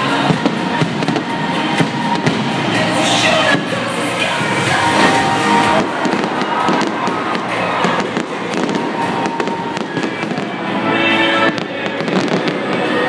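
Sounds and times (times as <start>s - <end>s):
fireworks bangs and crackles: 0.0s - 13.0s
music over sound system: 0.0s - 13.0s.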